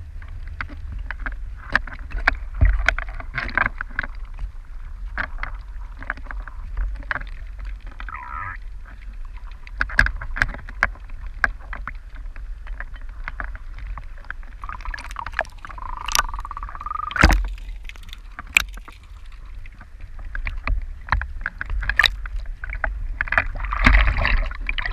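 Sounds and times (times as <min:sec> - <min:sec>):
waves lapping and splashing: 0:00.0 - 0:24.9.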